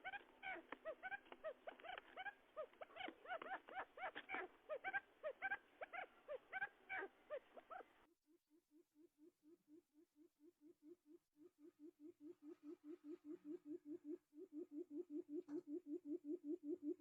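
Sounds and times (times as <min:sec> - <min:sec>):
quail chirping calls: 0:00.0 - 0:08.1, 0:10.6 - 0:17.0.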